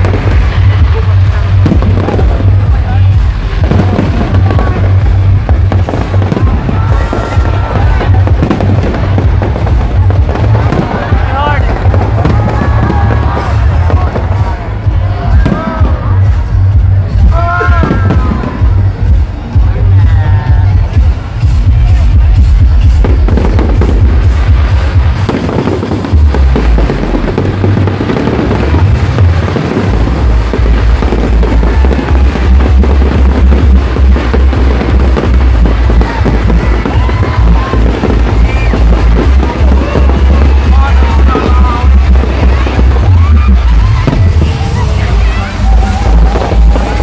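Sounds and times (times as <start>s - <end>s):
fireworks popping and crackling: 0.0s - 47.0s
loud music with pulsing bass: 0.0s - 47.0s
low rumble: 0.0s - 47.0s.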